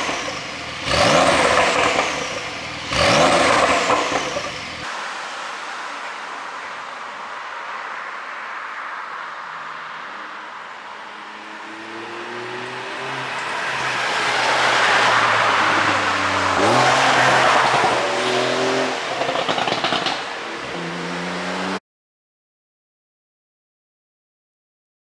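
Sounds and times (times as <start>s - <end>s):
car engine running hard: 0.0s - 21.8s.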